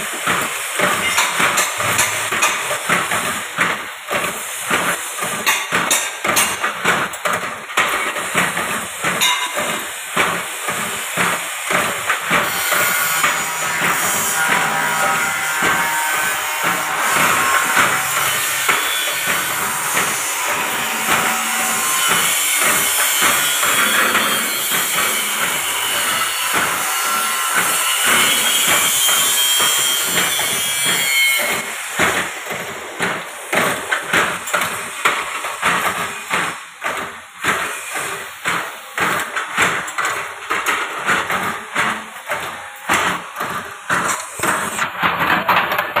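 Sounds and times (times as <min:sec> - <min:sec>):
machine clattering hiss: 0:00.0 - 0:46.0.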